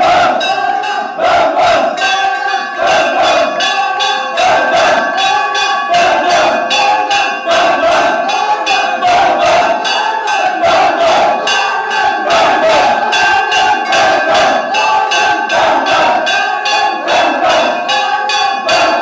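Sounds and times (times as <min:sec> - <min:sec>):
crowd of men chanting and shouting: 0:00.0 - 0:19.0
metal bell struck rapidly: 0:00.0 - 0:19.0.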